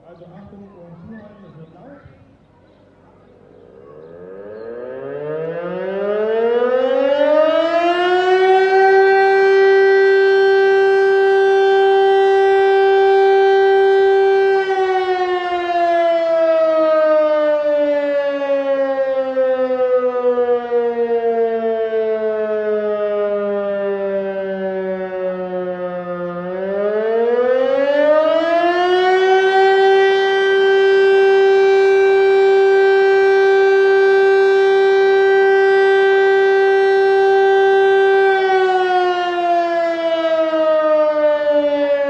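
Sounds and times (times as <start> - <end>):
alarm siren wailing: 0.0 - 42.0.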